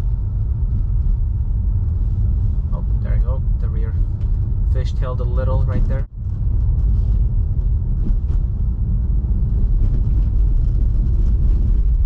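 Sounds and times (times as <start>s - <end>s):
tyres rumbling on snowy road: 0.0s - 12.0s.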